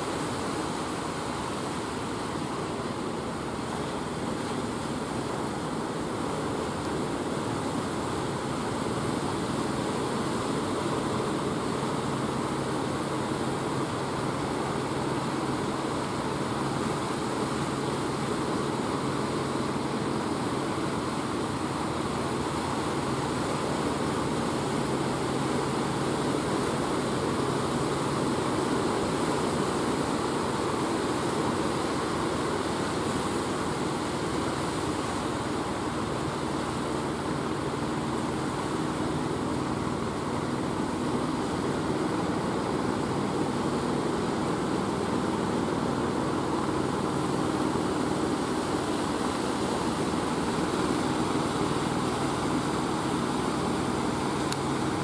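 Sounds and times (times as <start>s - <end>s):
boat engine humming: 0.0s - 55.0s
surf washing: 0.0s - 55.0s.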